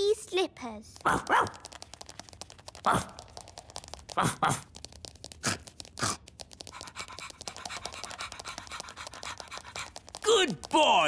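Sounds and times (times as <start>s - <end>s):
light clicking and scratching: 0.9s - 10.9s.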